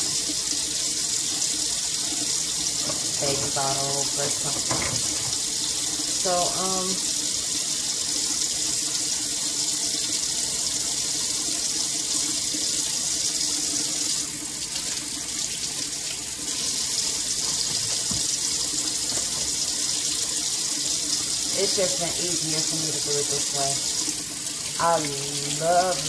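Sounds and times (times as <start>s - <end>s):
faucet running into sink: 0.0s - 26.0s.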